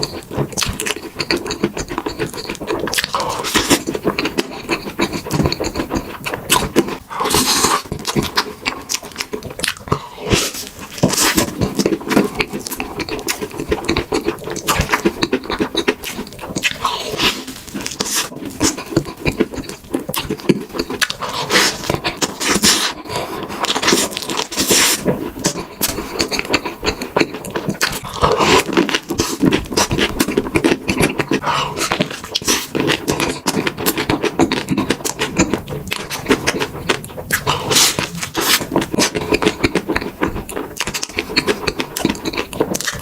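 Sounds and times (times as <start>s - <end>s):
dog crunching and chewing: 0.0s - 43.0s.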